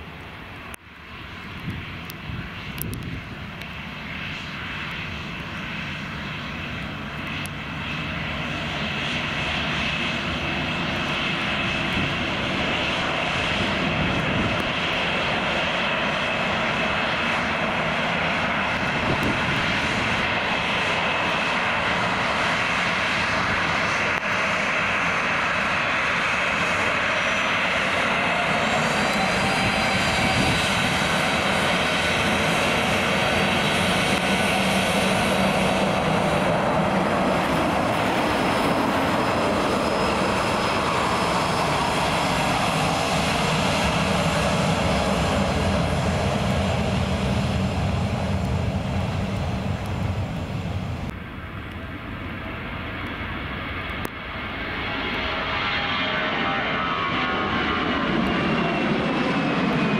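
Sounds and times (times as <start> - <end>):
jet engines whining rush: 0.0 - 59.9.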